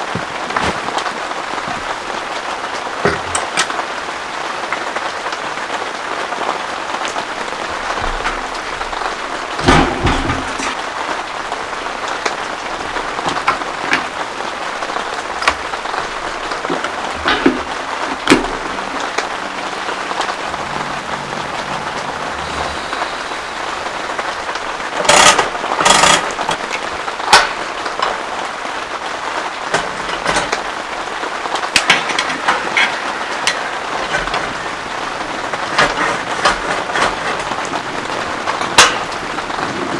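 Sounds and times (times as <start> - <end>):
big raindrops tapping: 0.0 - 39.9
heavy rain falling: 0.0 - 39.9.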